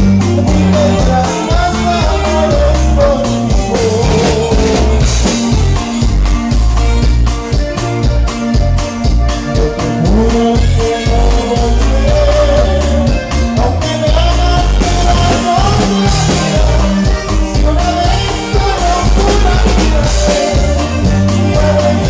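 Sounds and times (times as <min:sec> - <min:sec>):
person singing: 0:00.0 - 0:05.6, 0:09.3 - 0:22.0
live band dance music: 0:00.0 - 0:22.0.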